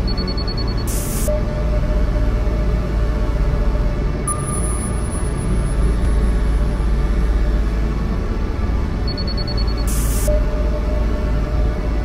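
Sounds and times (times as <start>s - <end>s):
electronic drone: 0.0s - 12.0s.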